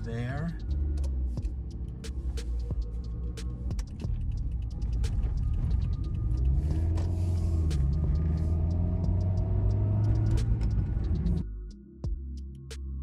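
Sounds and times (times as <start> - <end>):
car engine accelerating: 0.0 - 11.5
road noise: 0.0 - 11.5.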